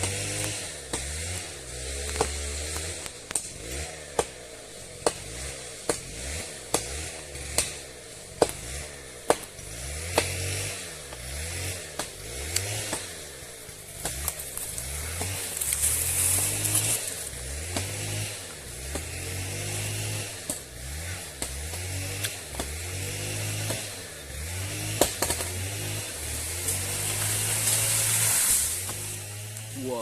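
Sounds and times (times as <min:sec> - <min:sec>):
machete chopping into wood: 0:00.0 - 0:29.7
chainsaw engine running: 0:00.0 - 0:30.0.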